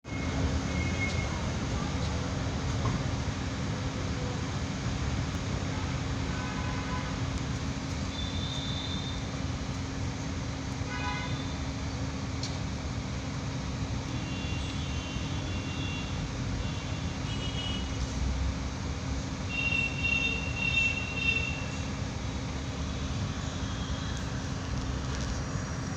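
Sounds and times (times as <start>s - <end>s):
traffic rumble: 0.0s - 25.9s.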